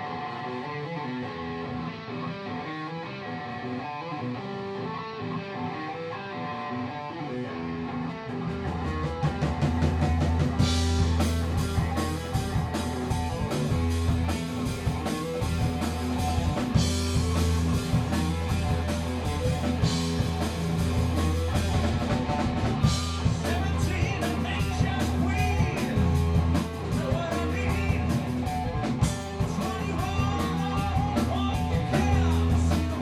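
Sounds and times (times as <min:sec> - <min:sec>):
bass guitar: 0:00.0 - 0:33.0
drums: 0:00.0 - 0:33.0
electric guitar riff: 0:00.0 - 0:33.0.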